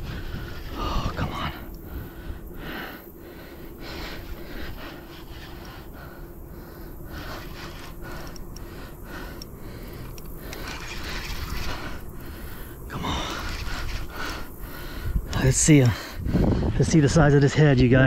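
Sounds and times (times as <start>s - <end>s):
man breathing hard: 0.0s - 16.8s.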